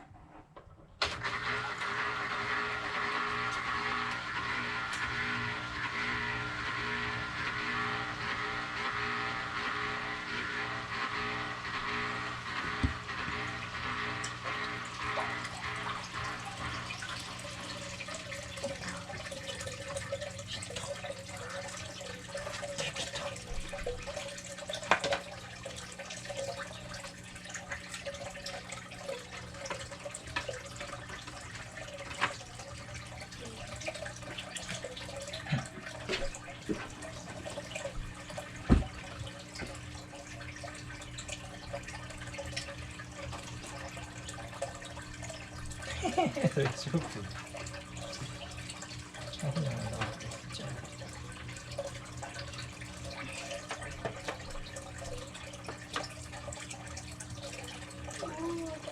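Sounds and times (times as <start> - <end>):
water trickling and splashing: 11.6 - 58.9.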